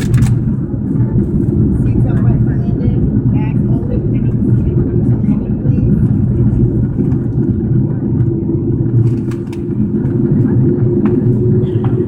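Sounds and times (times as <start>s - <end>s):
airliner cabin roar: 0.0s - 12.0s
constant hum: 0.0s - 12.0s.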